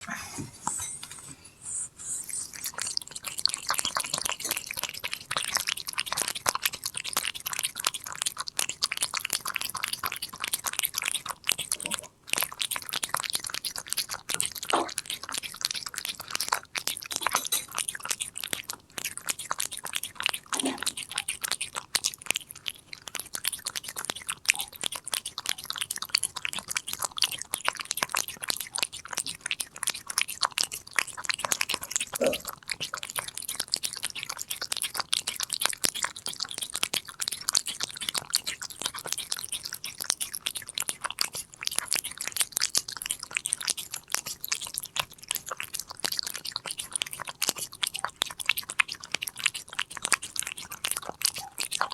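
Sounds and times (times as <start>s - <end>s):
cat crunching a treat: 2.4s - 51.9s.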